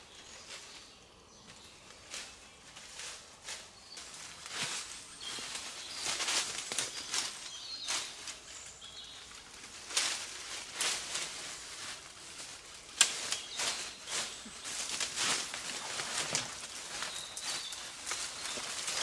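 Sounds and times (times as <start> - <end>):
leafy branches rustling: 0.0 - 19.0
twigs crackling: 0.0 - 19.0.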